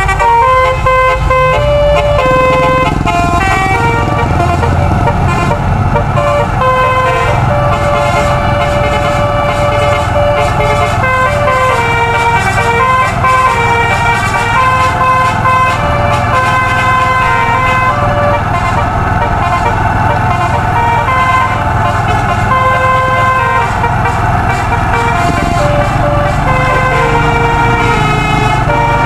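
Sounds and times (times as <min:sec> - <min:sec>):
low engine rumble: 0:00.0 - 0:29.0
musical air horn melody: 0:00.0 - 0:29.0.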